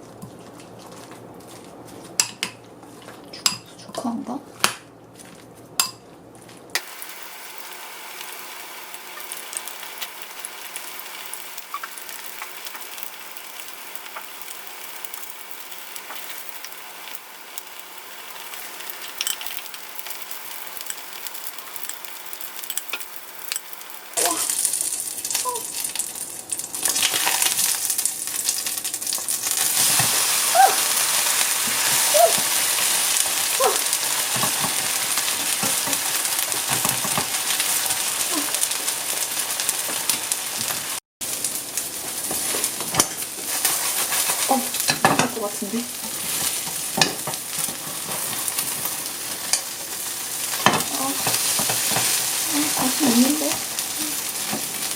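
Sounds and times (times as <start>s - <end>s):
food sizzling in a pan: 6.8s - 54.9s.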